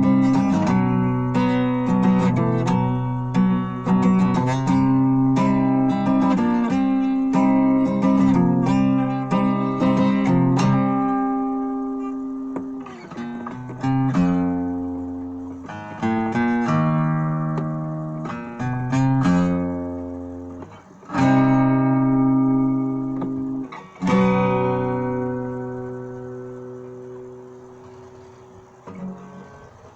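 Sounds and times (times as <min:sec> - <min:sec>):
acoustic guitar slow chords: 0:00.0 - 0:29.9.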